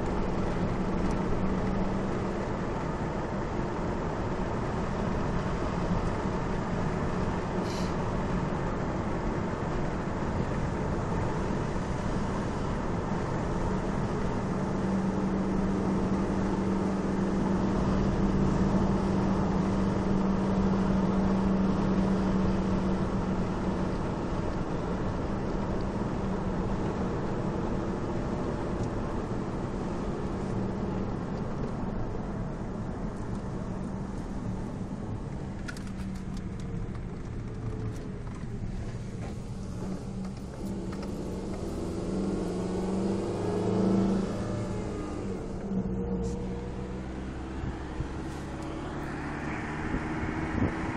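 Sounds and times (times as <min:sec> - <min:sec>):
low engine hum: 0:00.0 - 0:50.9
road noise inside car: 0:00.0 - 0:50.9.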